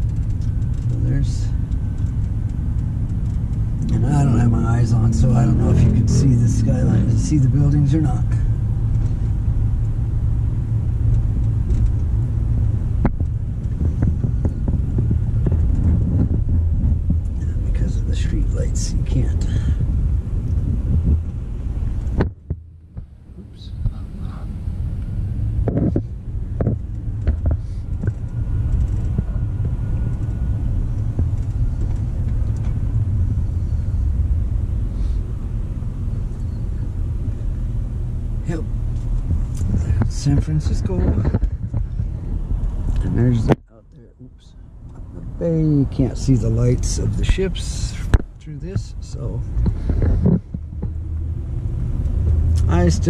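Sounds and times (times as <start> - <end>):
road and engine rumble in vehicle: 0.0 - 53.0.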